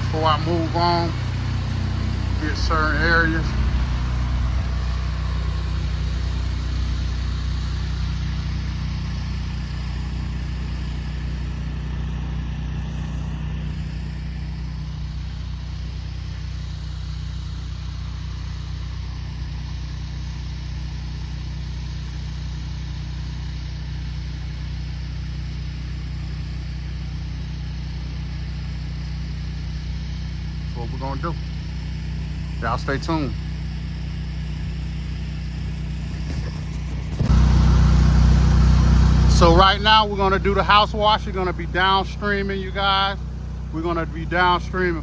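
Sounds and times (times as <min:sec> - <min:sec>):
water spray hiss: 0:00.0 - 0:30.4, 0:33.4 - 0:39.3
pressure washer engine running: 0:00.0 - 0:45.0.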